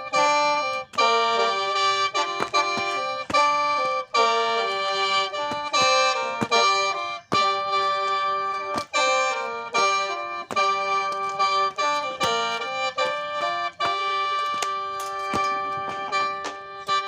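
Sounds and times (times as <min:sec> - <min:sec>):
bamboo mouth organ playing: 0:00.0 - 0:17.0.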